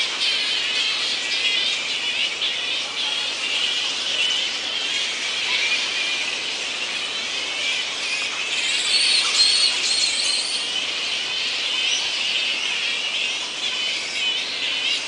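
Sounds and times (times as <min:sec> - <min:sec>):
fruit bats squeaking and chattering: 0:00.0 - 0:15.0.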